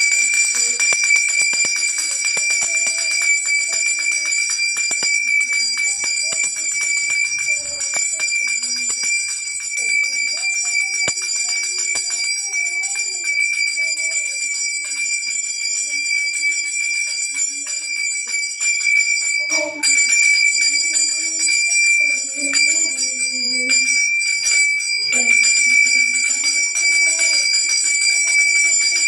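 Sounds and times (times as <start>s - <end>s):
bell rung continuously: 0.0s - 29.0s
people's voices: 0.0s - 29.0s.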